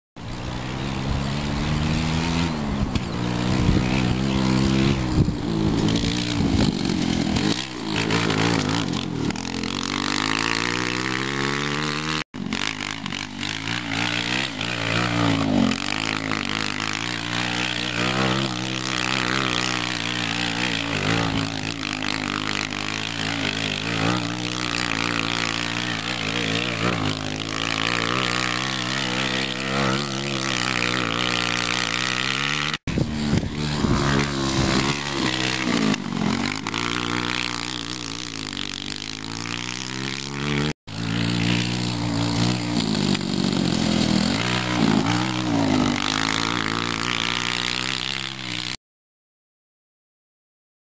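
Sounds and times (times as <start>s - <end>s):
go-kart engine revving: 0.2s - 48.8s.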